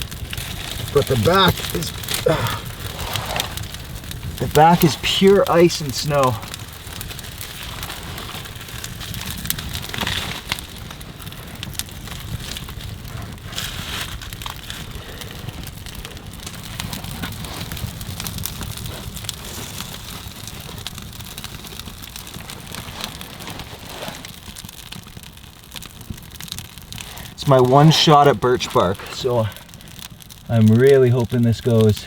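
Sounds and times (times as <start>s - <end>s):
small fire crackling: 0.0s - 32.0s.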